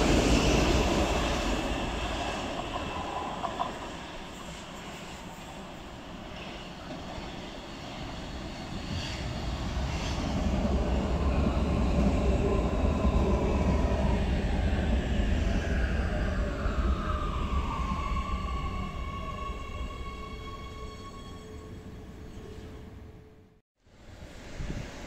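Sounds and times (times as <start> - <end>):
train wheels rumbling: 0.0 - 20.2.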